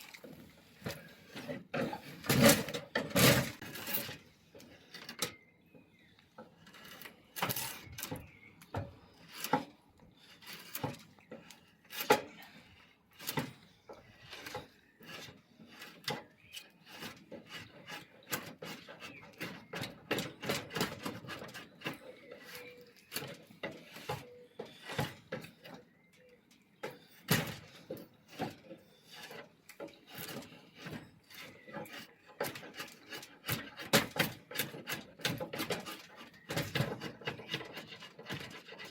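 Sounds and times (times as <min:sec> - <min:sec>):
hand tool rasping wood: 0:00.8 - 0:04.8, 0:06.8 - 0:26.0, 0:26.8 - 0:38.9.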